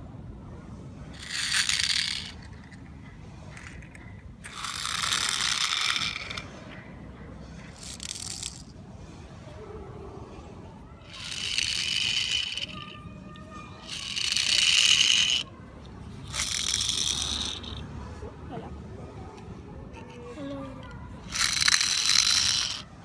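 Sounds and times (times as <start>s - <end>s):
toy car wheels rattling on stone: 1.2s - 8.8s, 11.0s - 18.0s, 19.2s - 23.0s.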